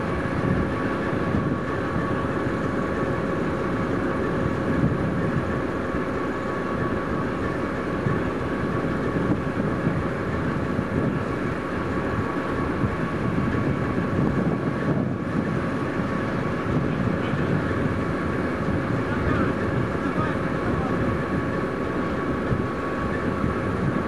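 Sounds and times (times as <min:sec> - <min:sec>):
diesel engine idling: 0:00.0 - 0:24.0
steady whine: 0:00.0 - 0:24.0.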